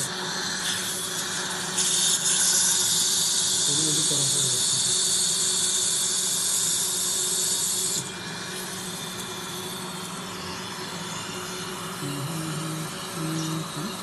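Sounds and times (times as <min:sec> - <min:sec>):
dental equipment hissing: 0:00.0 - 0:14.0.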